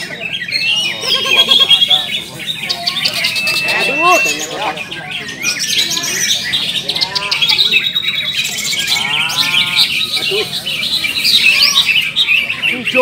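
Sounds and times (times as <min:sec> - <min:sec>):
birds chorus of whistles and trills: 0:00.0 - 0:13.0
low drawn-out bird call: 0:00.0 - 0:13.0.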